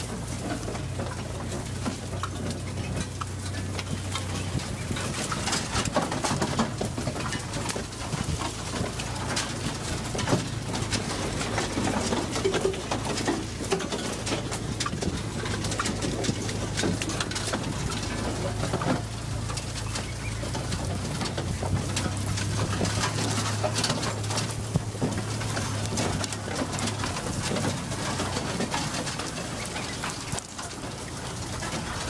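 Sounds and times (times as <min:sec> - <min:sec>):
atv engine running: 0:00.0 - 0:32.0
clicks and rattles: 0:00.0 - 0:32.0.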